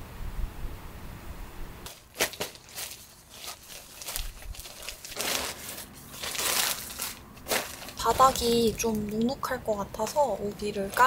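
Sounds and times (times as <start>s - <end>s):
plastic poncho crinkling: 1.9s - 11.0s.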